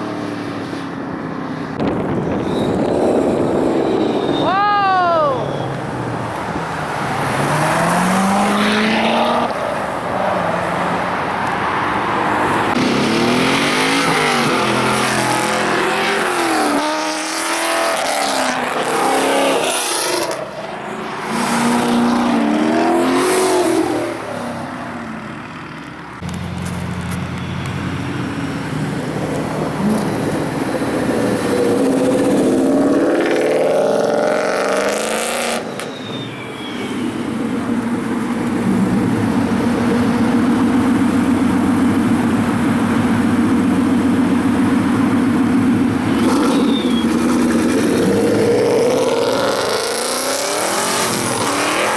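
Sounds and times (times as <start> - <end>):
muscle car engines revving: 5.6 - 51.9.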